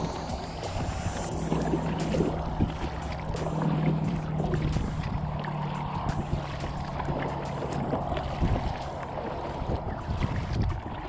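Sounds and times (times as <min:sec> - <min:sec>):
steady low hum: 0:00.0 - 0:10.9
paddle blades splashing: 0:00.0 - 0:11.0
water dripping off paddle: 0:00.0 - 0:11.0
water washing along hull: 0:00.0 - 0:11.0.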